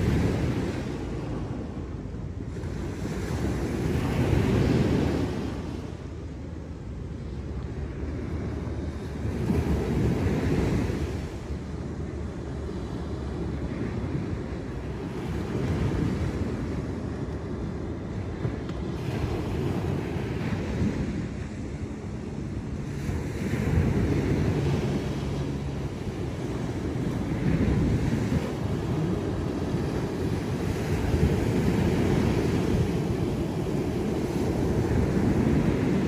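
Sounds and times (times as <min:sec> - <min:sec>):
waves breaking on a beach: 0:00.0 - 0:36.0
wind rumbling on microphone: 0:00.0 - 0:36.0.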